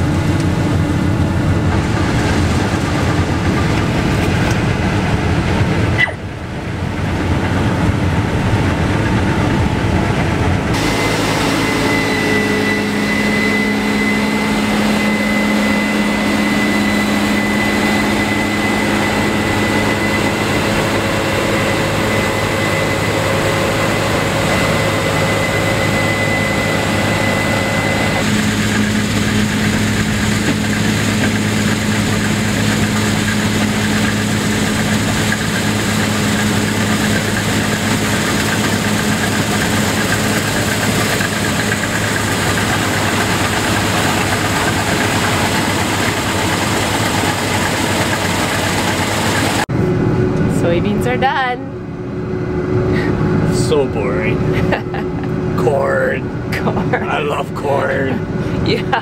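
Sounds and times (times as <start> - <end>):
combine engine drone: 0.0 - 59.0
thin high whine: 10.7 - 59.0.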